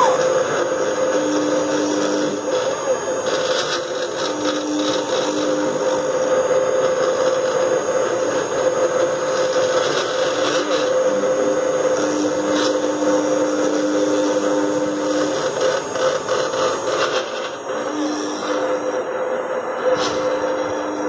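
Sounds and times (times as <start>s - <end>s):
router bit cutting wood: 0.0s - 21.0s
spindle motor whine: 0.0s - 21.0s.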